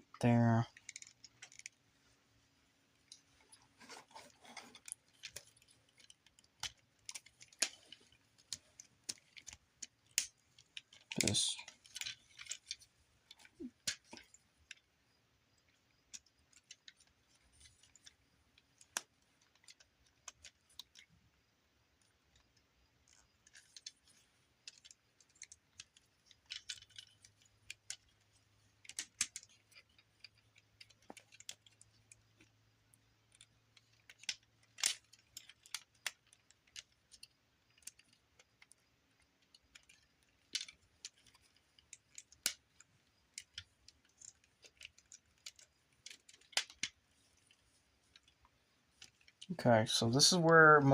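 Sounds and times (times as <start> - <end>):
small plastic clicks and rattles: 0.0 - 49.5.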